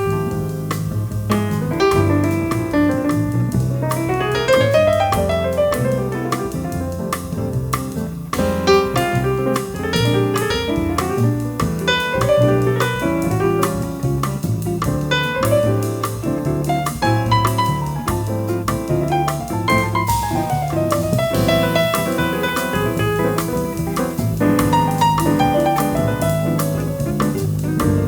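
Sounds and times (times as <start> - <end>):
jazz combo playing bossa nova: 0.0 - 28.0
piano: 0.0 - 28.0.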